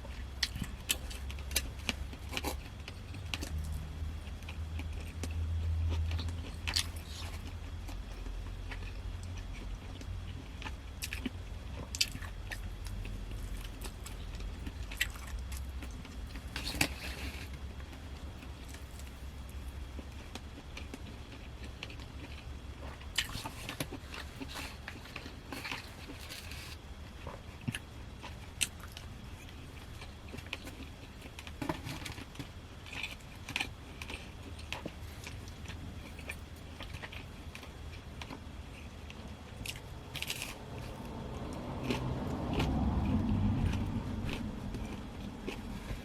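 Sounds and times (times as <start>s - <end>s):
person chewing: 0.0s - 46.0s
steady low hum: 0.0s - 46.0s.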